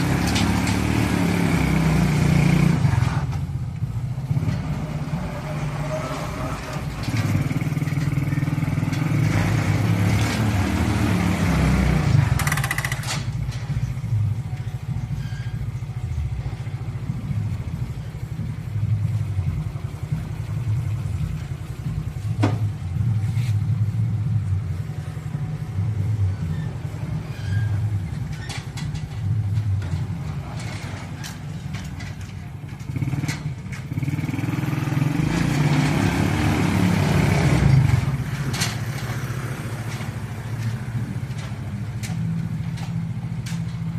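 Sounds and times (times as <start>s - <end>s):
small truck engine running: 0.0s - 43.9s.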